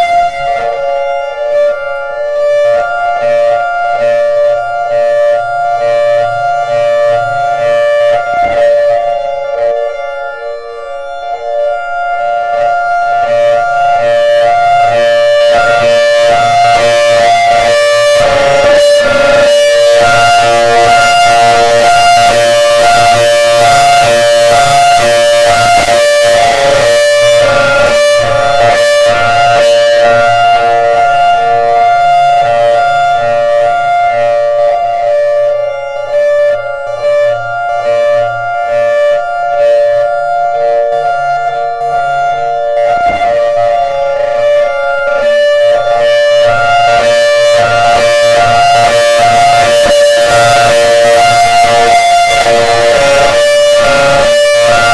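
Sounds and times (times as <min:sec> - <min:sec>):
warning siren with fast flutter: 0:00.0 - 0:54.9.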